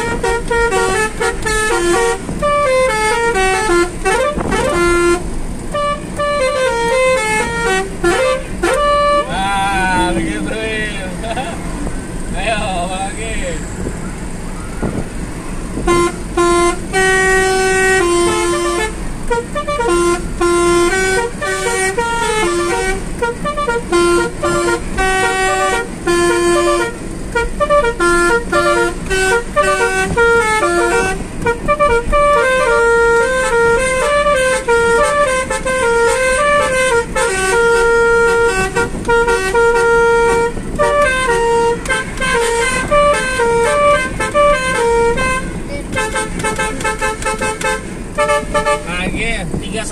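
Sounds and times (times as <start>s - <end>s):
musical air horn playing a melody: 0.0s - 9.4s, 15.7s - 48.9s.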